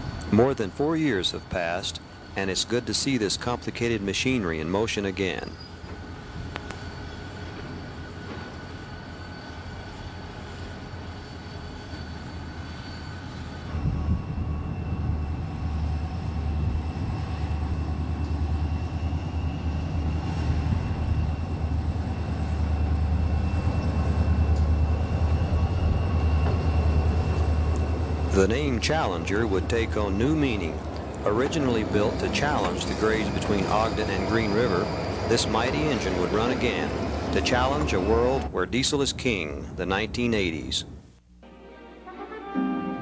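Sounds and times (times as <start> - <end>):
diesel locomotive engine rumbling: 0.0 - 43.0.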